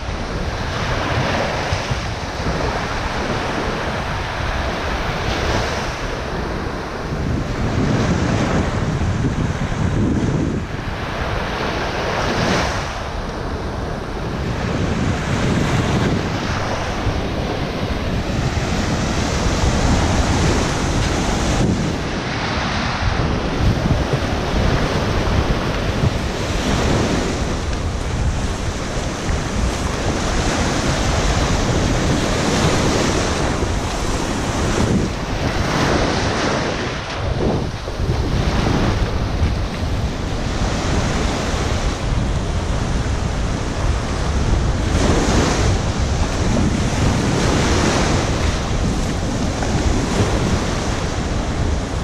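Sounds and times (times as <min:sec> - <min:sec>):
surf breaking on shore: 0:00.0 - 0:52.0
wind buffeting microphone: 0:00.0 - 0:52.0.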